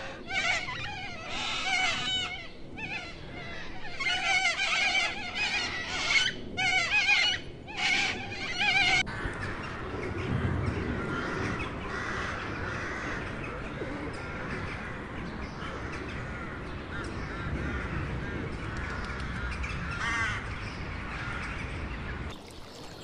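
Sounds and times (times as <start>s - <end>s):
gulls and crows calling: 0.0s - 23.0s.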